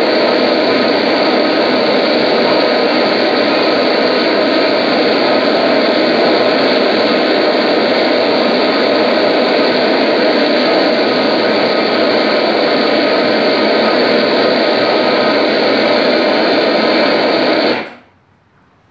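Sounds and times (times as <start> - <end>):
amplified harsh noise: 0.0 - 18.1.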